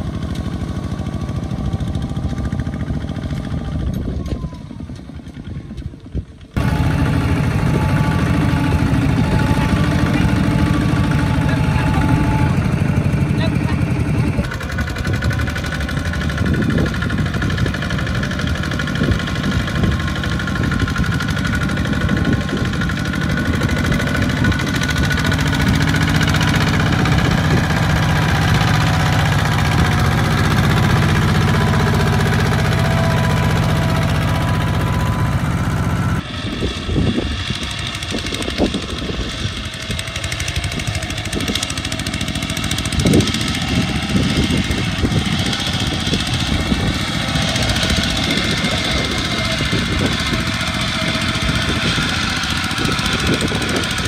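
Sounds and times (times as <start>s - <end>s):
diesel tractor engines chugging: 0.0s - 54.0s.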